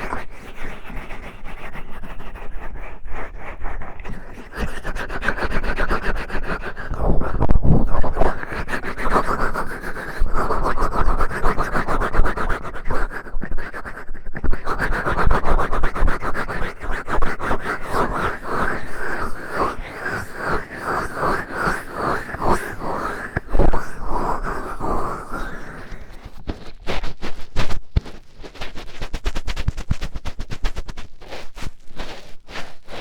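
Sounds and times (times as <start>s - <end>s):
fingertip scratching microphone: 0.0s - 33.0s.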